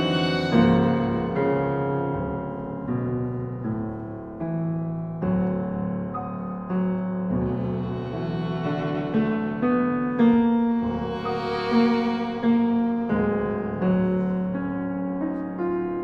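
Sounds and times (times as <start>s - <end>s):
piano slow chords: 0.0s - 16.0s.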